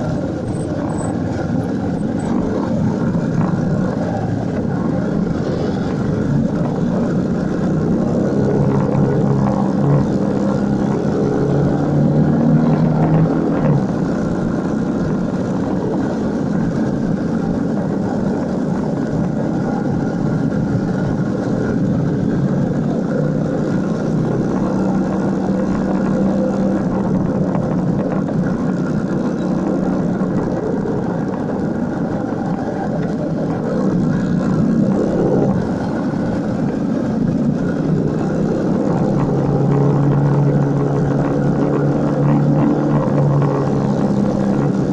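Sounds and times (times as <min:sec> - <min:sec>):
motorcycle engine running: 0:00.0 - 0:44.9
riding noise rush: 0:00.0 - 0:44.9.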